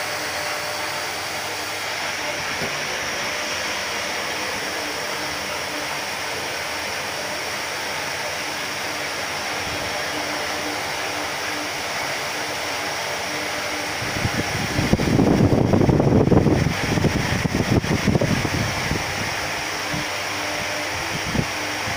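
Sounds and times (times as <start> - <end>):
steady hiss: 0.0 - 21.9.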